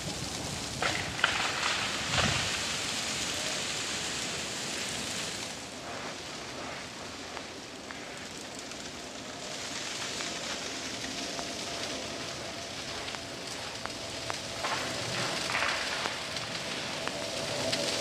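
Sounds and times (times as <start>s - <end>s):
freezing rain hissing on ice: 0.0s - 18.0s.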